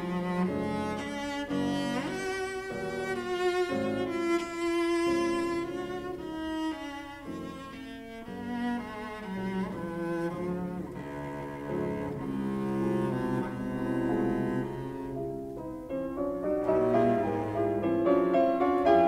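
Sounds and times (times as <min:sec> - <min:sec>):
piano accompaniment: 0:00.0 - 0:19.0
slow bowed string melody: 0:00.0 - 0:19.0.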